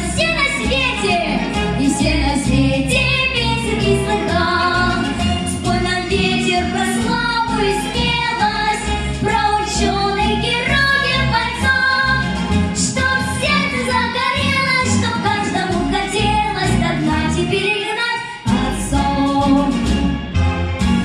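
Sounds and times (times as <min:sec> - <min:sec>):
instrumental accompaniment: 0:00.0 - 0:17.6, 0:18.5 - 0:21.0.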